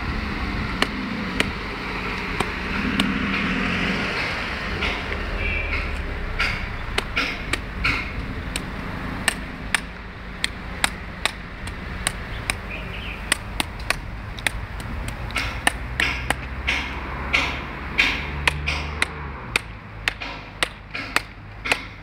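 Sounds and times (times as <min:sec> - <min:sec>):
machete chopping coconut: 0:00.7 - 0:04.1, 0:04.8 - 0:22.0.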